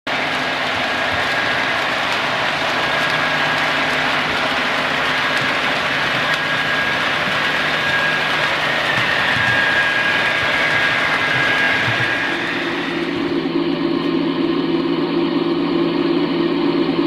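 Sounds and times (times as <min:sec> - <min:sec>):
model train diesel engine sound: 0:00.0 - 0:17.0
thin constant whine: 0:00.1 - 0:17.0.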